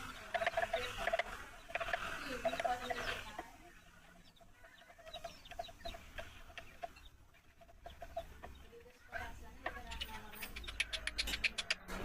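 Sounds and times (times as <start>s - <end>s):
chicken clucking: 0.0s - 12.0s.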